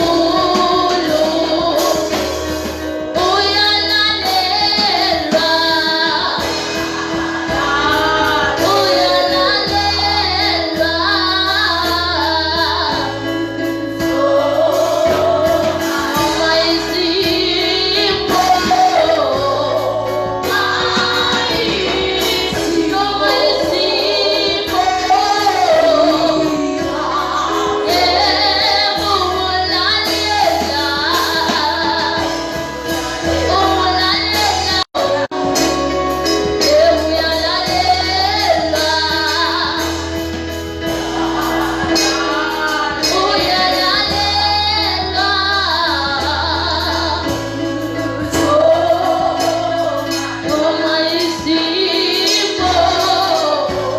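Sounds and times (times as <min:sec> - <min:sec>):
instrumental accompaniment: 0:00.0 - 0:53.9
woman singing gospel: 0:00.0 - 0:53.9.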